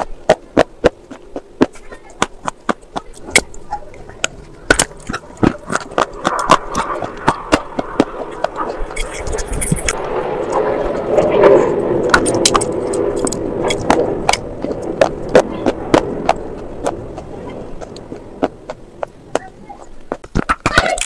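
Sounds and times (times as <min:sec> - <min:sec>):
crunching chalky sticks being chewed: 0:00.0 - 0:20.6.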